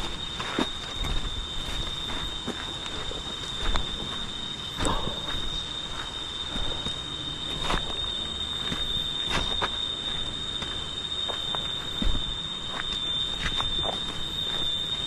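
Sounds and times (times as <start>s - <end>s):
cicada drone: 0.0s - 15.0s.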